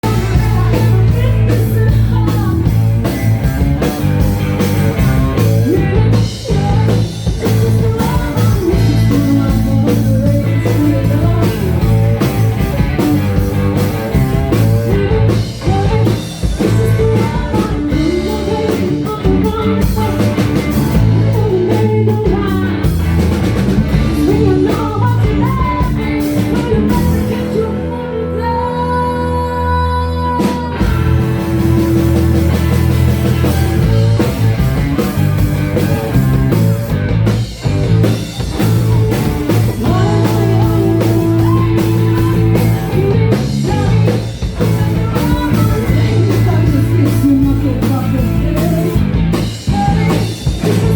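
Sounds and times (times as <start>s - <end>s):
person singing: 0.0s - 2.9s, 5.3s - 13.2s, 14.5s - 23.3s, 23.9s - 35.2s, 38.5s - 50.9s
drum kit: 0.0s - 27.9s, 30.4s - 50.9s
bass: 0.0s - 50.9s
electric guitar: 0.0s - 50.9s.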